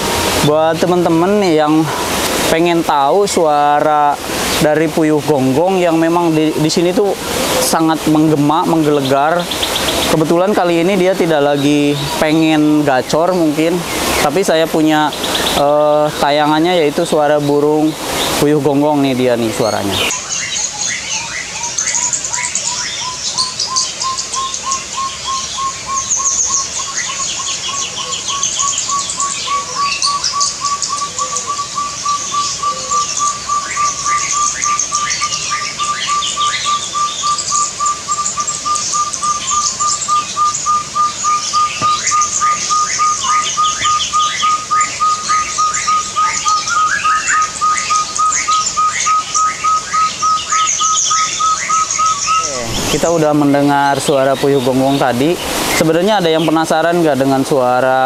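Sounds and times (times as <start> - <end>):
partridge whistled calls: 0.0 - 58.0
small birds chirping: 0.0 - 58.0.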